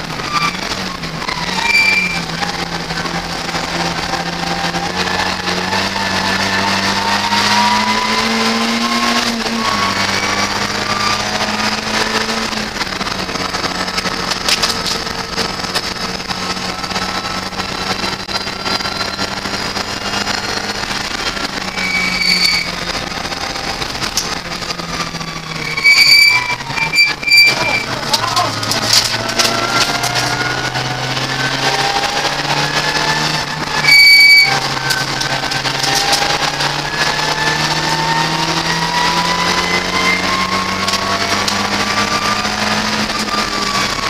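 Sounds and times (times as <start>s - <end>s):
race car engine accelerating: 0.0s - 44.0s.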